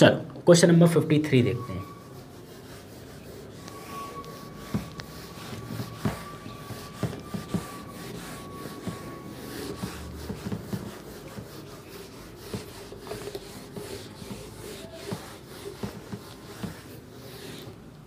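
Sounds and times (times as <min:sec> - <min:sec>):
eraser rubbing whiteboard: 0:01.5 - 0:18.0.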